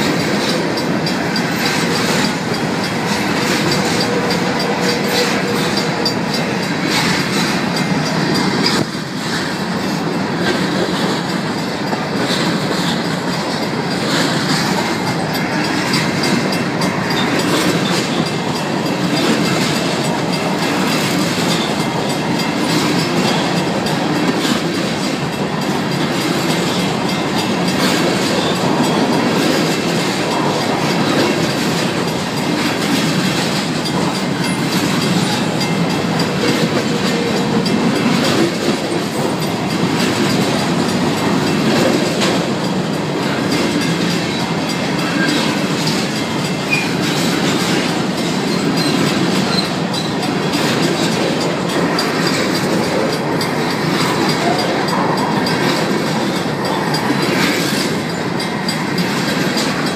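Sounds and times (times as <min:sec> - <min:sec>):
crossing bells ringing: 0:00.0 - 0:59.9
train wheels clattering: 0:00.0 - 0:59.9
wheels clicking over rail joints: 0:00.0 - 0:59.9.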